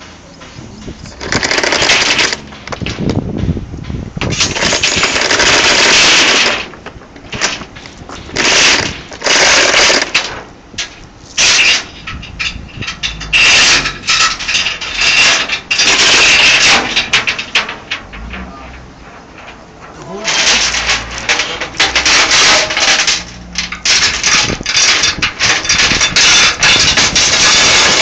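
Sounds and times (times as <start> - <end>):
chain and ratchet binder rattling: 0.8 - 3.6, 7.3 - 28.0.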